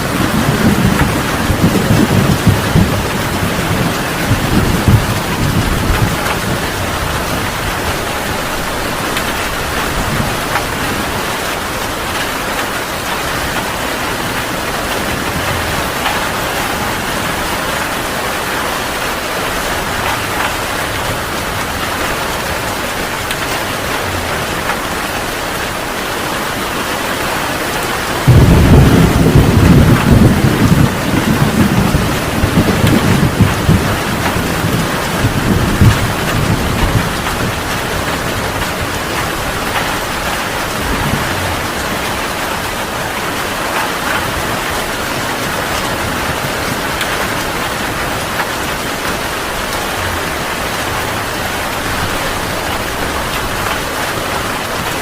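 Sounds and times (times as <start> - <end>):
heavy rain pouring: 0.0 - 55.0
thunder rumbling: 0.0 - 55.0.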